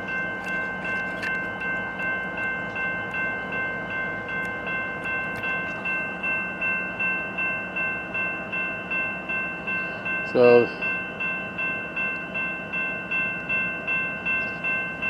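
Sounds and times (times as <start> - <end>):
crossing bell ringing: 0.0 - 15.0
diesel locomotive idling: 0.0 - 15.0.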